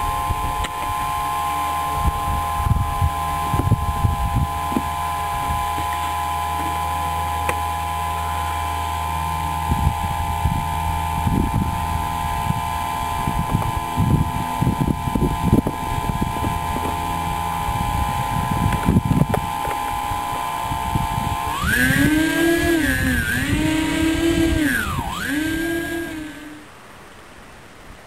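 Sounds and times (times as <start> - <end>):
wind on microphone: 0.0 - 6.9, 9.0 - 26.6
electric motors whining: 0.0 - 26.8.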